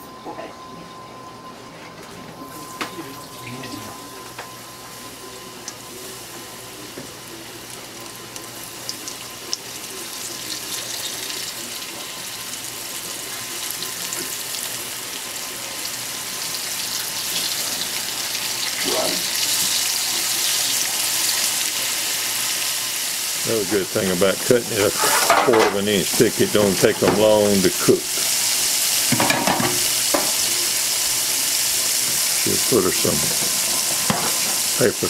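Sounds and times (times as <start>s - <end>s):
food frying in hot oil: 5.0s - 35.0s.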